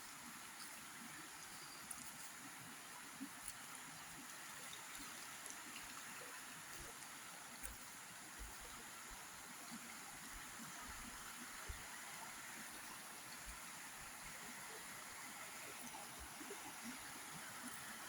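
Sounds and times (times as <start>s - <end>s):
flowing water rush: 0.0s - 18.0s.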